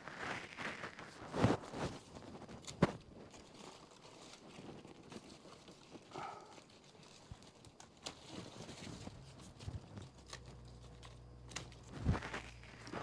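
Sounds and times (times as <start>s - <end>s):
grapevine foliage rustling: 0.0s - 13.0s
low steady hum: 1.2s - 13.0s.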